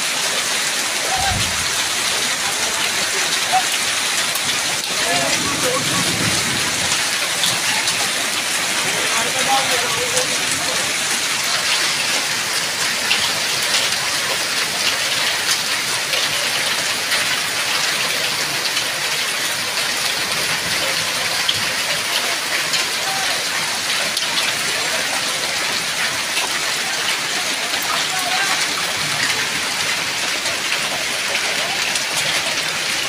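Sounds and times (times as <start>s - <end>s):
hailstones ticking: 0.0s - 33.0s
heavy rain on pavement: 0.0s - 33.0s.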